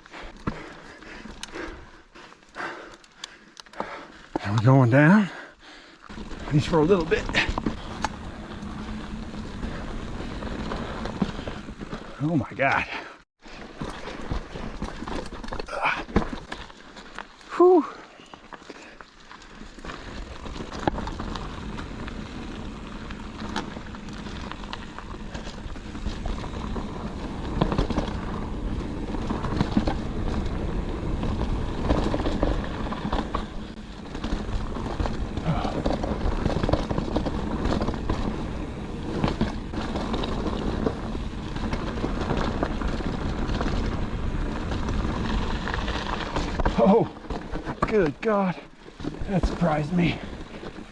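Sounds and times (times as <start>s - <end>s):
bike tyre noise: 0.0s - 50.9s
bike rattling and knocking: 6.0s - 17.6s, 18.4s - 50.9s.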